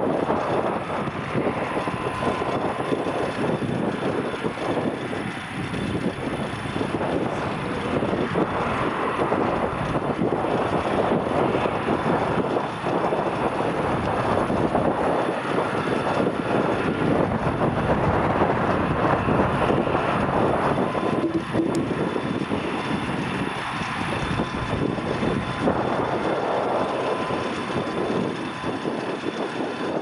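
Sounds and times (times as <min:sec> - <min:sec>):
jet engines taxiing: 0:00.0 - 0:30.0.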